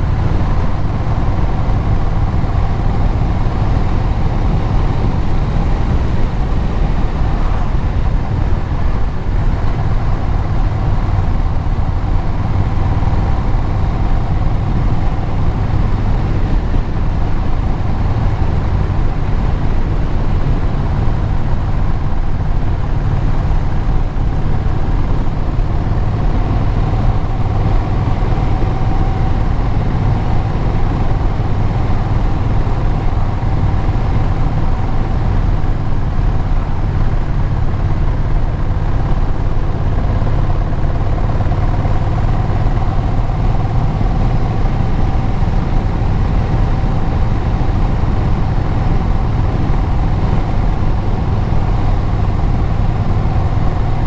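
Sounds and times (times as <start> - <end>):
road and wind noise: 0.0 - 54.0
vehicle engine droning: 0.0 - 54.0.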